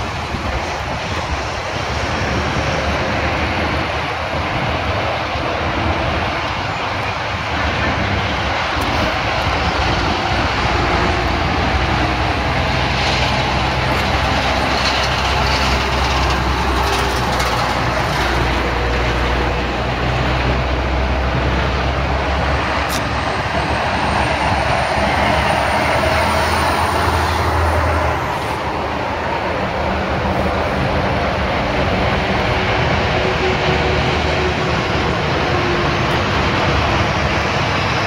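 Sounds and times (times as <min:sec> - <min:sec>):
vehicle engine drone: 0:00.0 - 0:38.0.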